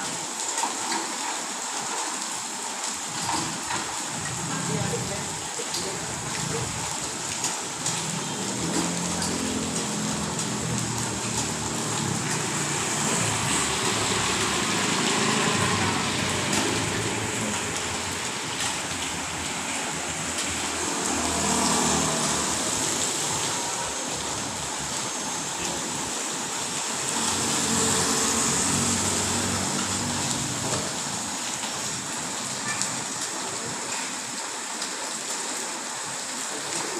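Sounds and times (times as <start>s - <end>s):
heavy rain hissing: 0.0s - 36.9s
vehicles passing on wet road: 0.1s - 36.9s.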